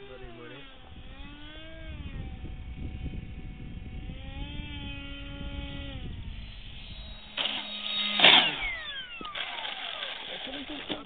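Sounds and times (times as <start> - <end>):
model jet motor whining: 0.0 - 11.0
plane passing with loud rush: 0.0 - 11.0.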